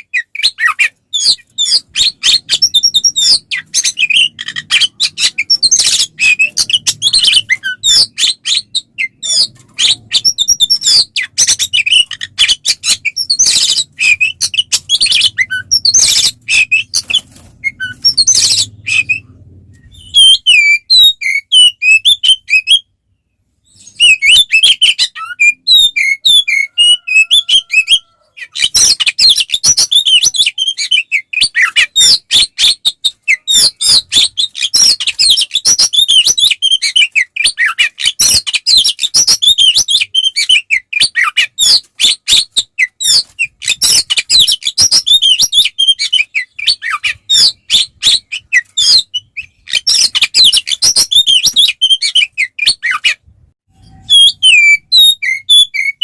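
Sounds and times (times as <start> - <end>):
bird singing fast chirps and trills: 0.0 - 56.0.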